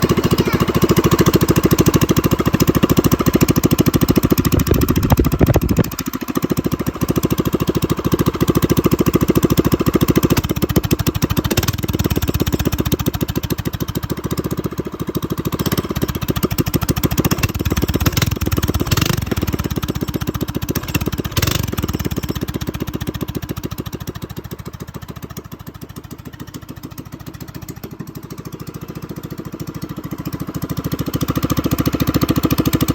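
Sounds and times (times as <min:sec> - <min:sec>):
small engine idling and revving: 0:00.0 - 0:32.9.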